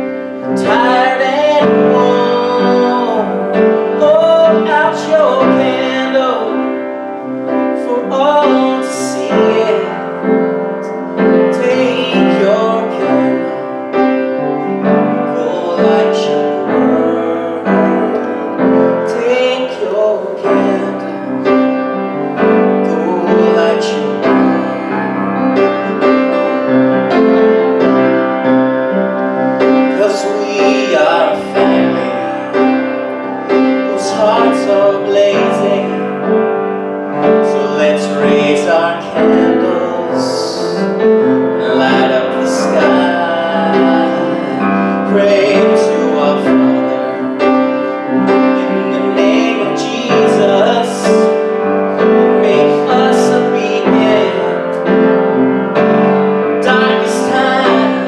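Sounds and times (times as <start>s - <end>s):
piano music: 0.0s - 58.0s.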